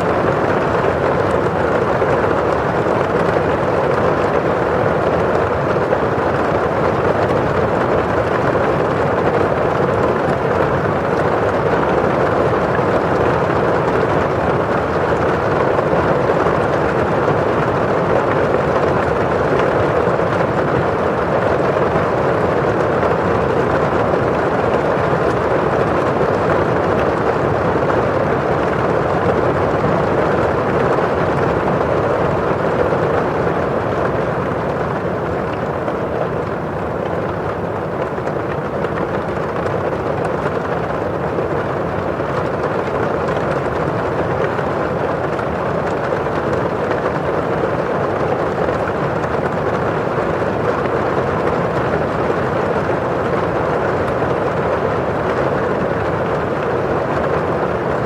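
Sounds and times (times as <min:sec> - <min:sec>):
rain drops on window glass: 0:00.0 - 0:58.0
rain rushing outside: 0:00.0 - 0:58.0.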